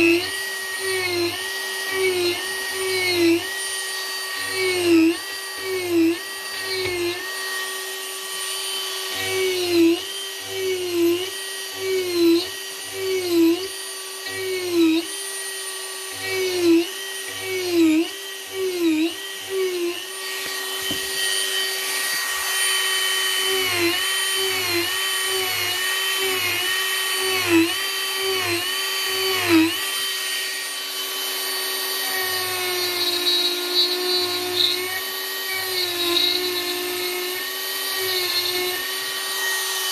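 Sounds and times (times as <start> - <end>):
rotary tool carving wood: 0.0 - 39.9.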